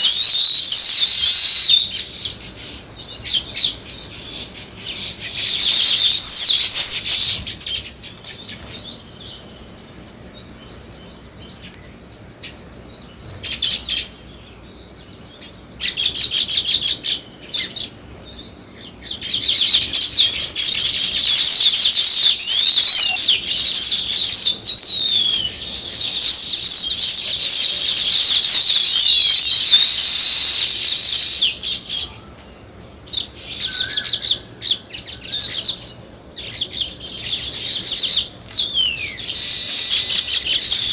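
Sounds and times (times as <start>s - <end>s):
birds chattering with high chirps: 0.0s - 40.9s.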